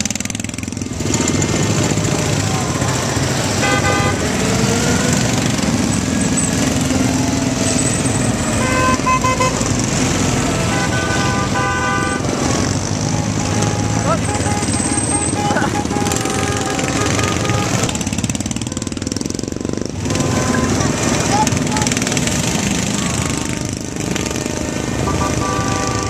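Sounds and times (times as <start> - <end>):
small car engines running: 0.0 - 26.0
car horns tooting: 1.1 - 26.0.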